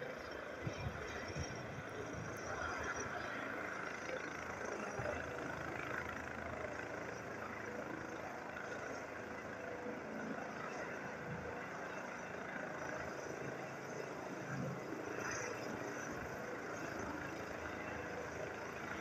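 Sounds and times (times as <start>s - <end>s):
helicopter lifting off: 0.0s - 19.0s.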